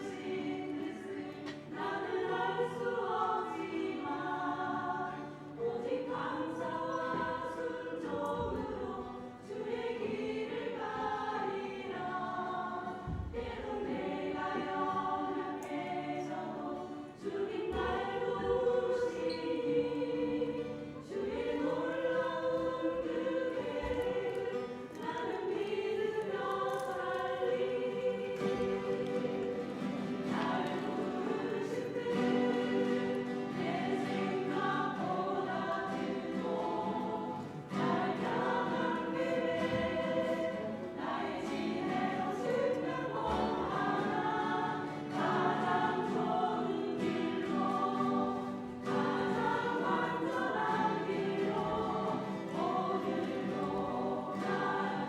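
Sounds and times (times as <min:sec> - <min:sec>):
church choir singing a hymn: 0:00.0 - 0:55.0.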